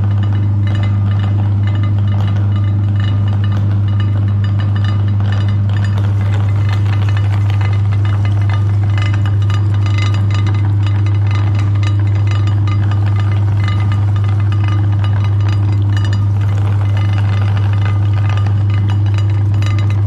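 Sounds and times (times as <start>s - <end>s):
meat grinder motor humming: 0.0s - 20.0s
rattling and clinking: 0.0s - 20.0s.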